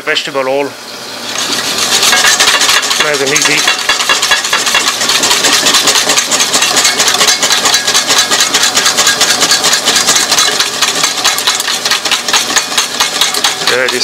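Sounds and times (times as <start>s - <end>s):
whisk beating against steel bowl: 1.3s - 14.0s.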